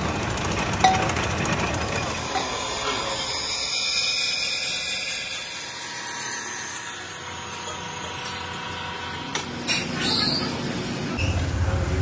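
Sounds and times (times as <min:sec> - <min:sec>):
workshop machinery noise: 0:00.0 - 0:12.0.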